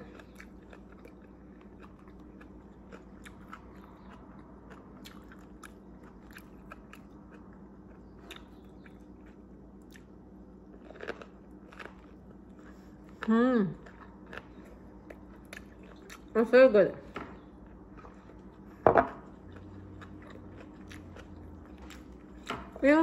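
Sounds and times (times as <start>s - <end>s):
person chewing: 0.0s - 16.3s, 17.4s - 22.8s.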